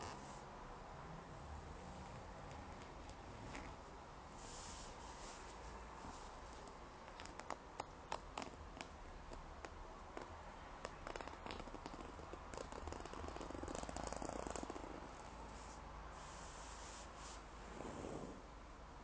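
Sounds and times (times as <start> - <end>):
scratching on fabric cushion: 0.0 - 0.4, 1.8 - 18.5.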